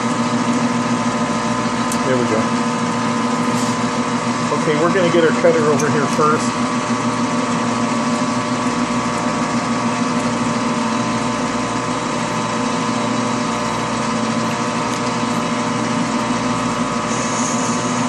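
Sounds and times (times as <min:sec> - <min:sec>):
metal lathe humming: 0:00.0 - 0:18.0.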